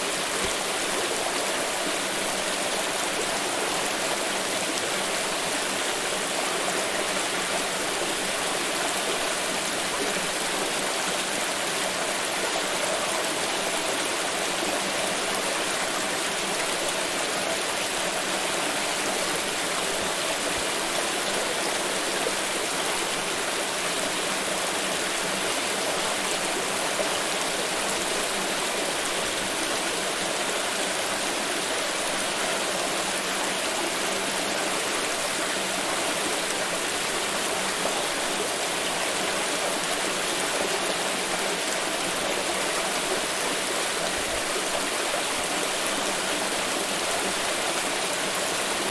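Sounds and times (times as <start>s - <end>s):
river flowing over rocks: 0.0s - 48.9s.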